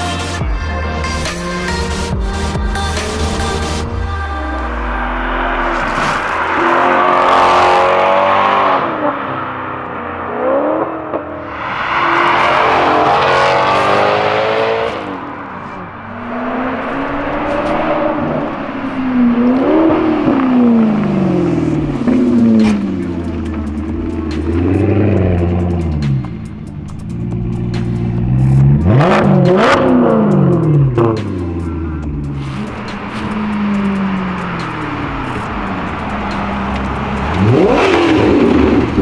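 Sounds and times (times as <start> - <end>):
car engine revving hard: 0.0 - 39.0.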